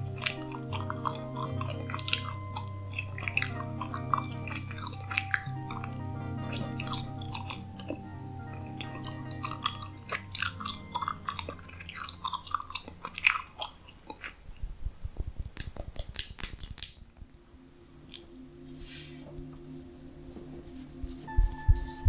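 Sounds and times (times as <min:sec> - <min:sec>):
soft background drone: 0:00.0 - 0:14.3, 0:17.0 - 0:22.0.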